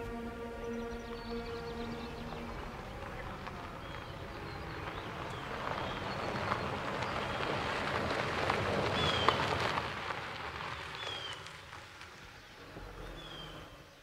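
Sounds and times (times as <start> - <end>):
birds chirping: 0.0 - 14.0
car tyres crunching over gravel: 0.0 - 14.0.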